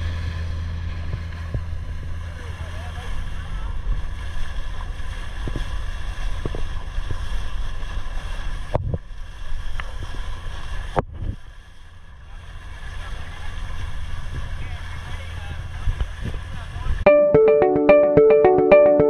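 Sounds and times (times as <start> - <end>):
water washing along hull: 0.0 - 16.9.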